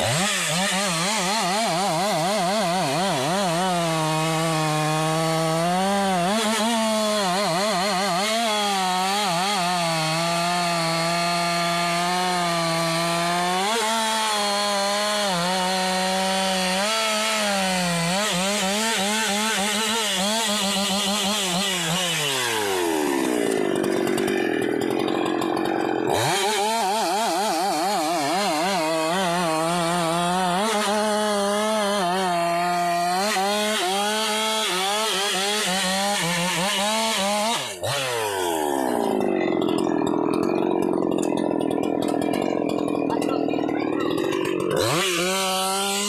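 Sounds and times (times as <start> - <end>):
chainsaw cutting log: 0.0 - 46.0.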